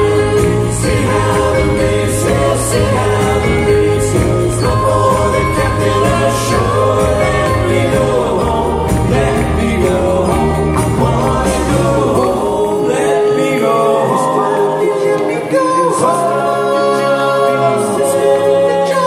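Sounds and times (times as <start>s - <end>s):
group vocal harmonies: 0.0s - 19.0s
live band playing pop song: 0.0s - 19.0s.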